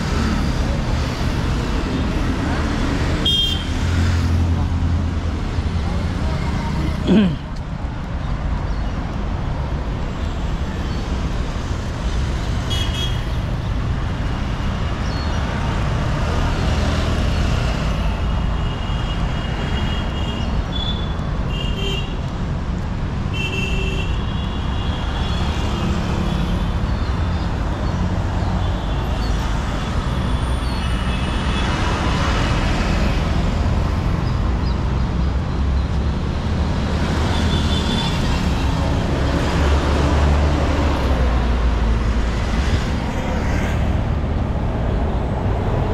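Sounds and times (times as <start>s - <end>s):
vehicles rumbling past: 0.0s - 18.6s, 24.2s - 45.9s.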